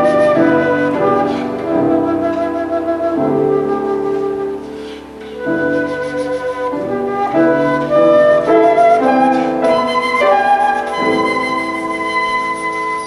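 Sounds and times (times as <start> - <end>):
flute melody: 0.0 - 13.0
low sustained accompaniment: 0.0 - 13.0.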